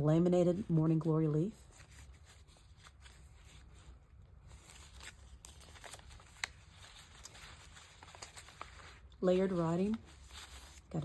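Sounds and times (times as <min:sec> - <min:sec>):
paper pages rustling and turning: 0:00.5 - 0:11.0.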